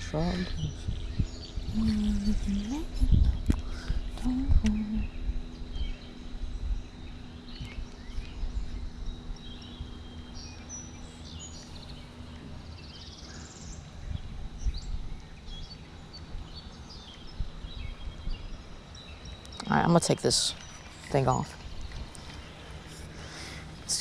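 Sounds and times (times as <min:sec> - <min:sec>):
low rumble: 0:00.0 - 0:19.9
songbirds chirping and trilling: 0:00.0 - 0:24.0.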